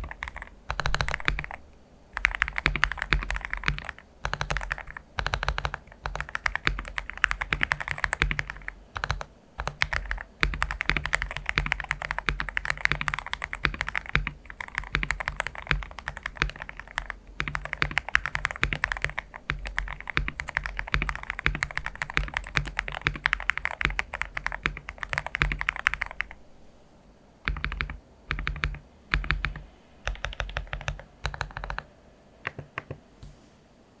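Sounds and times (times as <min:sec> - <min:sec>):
mechanical keyboard typing: 0:00.0 - 0:26.4, 0:27.5 - 0:33.0.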